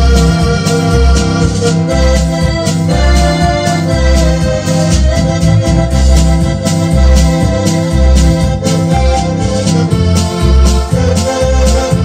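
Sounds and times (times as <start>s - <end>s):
electronic keyboard music: 0.0s - 12.0s.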